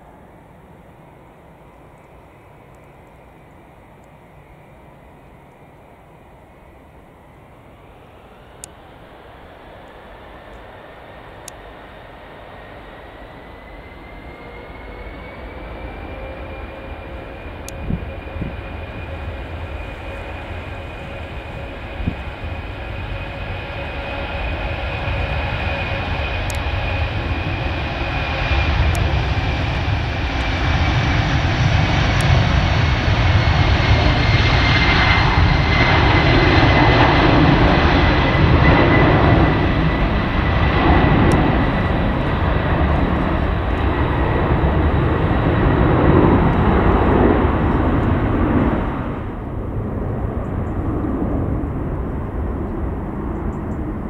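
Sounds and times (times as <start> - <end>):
jet deep rumble: 0.0 - 54.0
jet engine high whine: 0.0 - 54.0.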